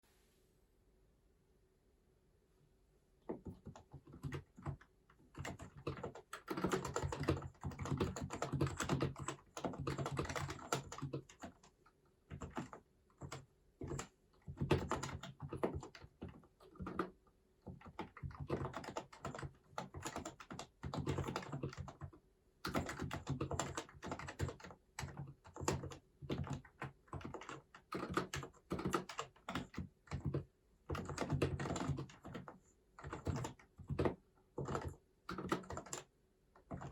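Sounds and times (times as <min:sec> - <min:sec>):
soft muted keyboard typing: 0:03.2 - 0:36.9.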